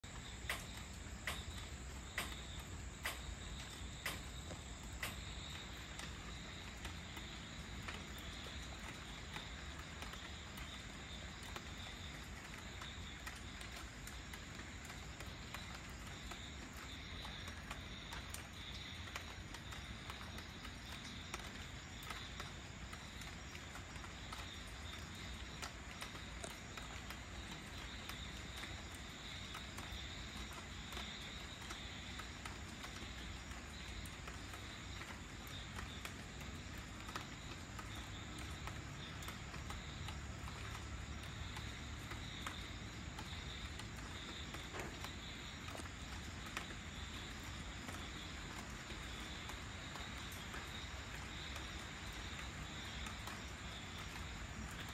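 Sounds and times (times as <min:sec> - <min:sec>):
insects chirping: 0:00.0 - 0:54.9
light rain falling: 0:00.0 - 0:54.9
sharp drips: 0:00.0 - 0:54.9.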